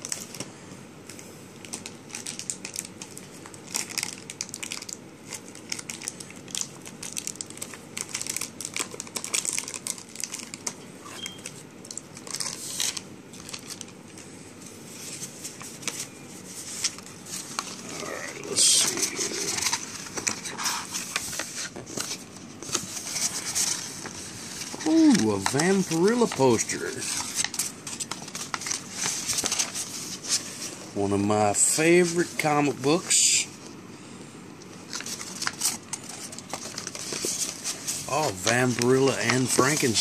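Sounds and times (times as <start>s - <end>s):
rolled paper poster rustling: 0.0s - 33.8s, 34.7s - 40.0s
cardboard and paper crinkling: 1.1s - 31.0s, 34.9s - 40.0s.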